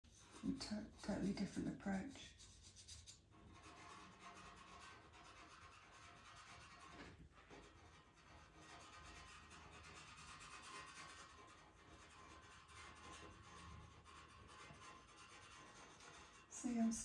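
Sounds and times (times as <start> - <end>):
pastel pencil scratching paper: 0.1 - 17.0.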